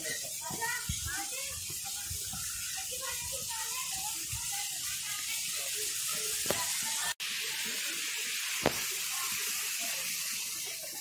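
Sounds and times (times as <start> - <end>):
rushing water hiss: 0.0 - 11.0.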